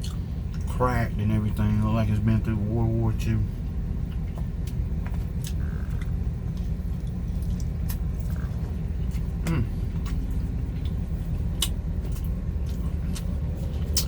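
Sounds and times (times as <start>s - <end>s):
vehicle engine rumble from cab: 0.0s - 14.0s.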